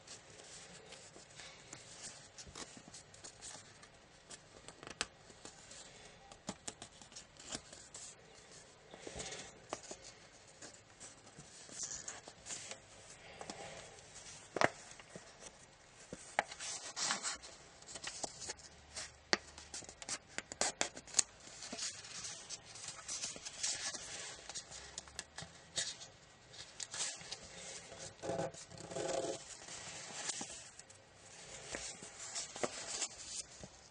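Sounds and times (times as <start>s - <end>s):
paper rustling and crackling: 0.1s - 33.9s.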